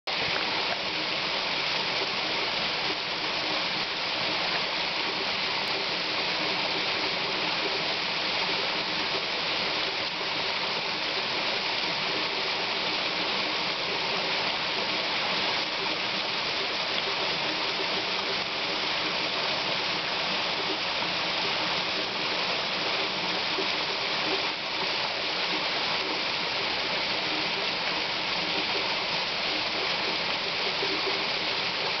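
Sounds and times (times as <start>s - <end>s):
small waterfall splashing: 0.1s - 32.0s.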